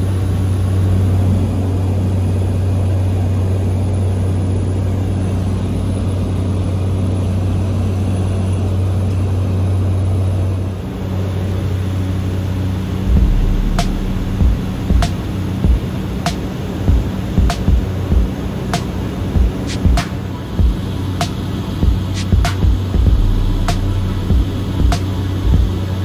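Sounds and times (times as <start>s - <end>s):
turboprop engine drone in flight: 0.0s - 26.0s.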